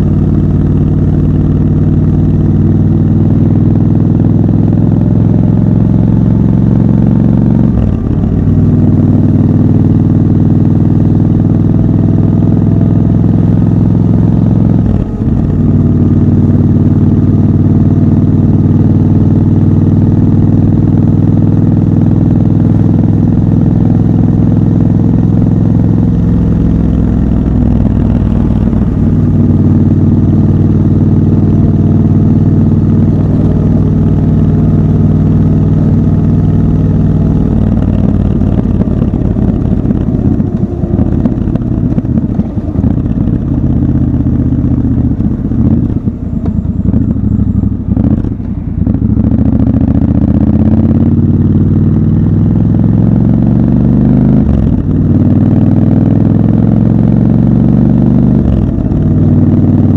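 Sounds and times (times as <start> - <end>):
motorcycle engine running loud: 0.0 - 59.9.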